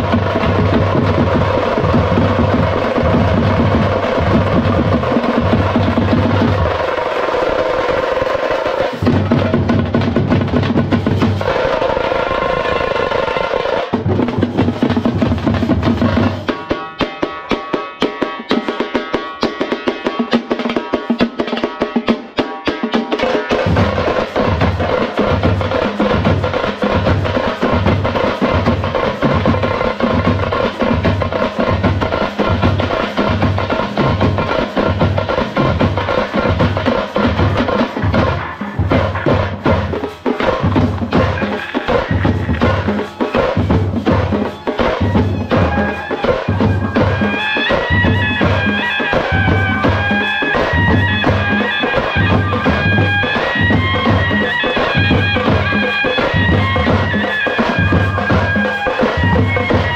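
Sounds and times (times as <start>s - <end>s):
music with deep drum beat: 0.0s - 6.9s, 8.9s - 11.6s, 13.9s - 59.9s
fast drum roll: 0.0s - 59.9s.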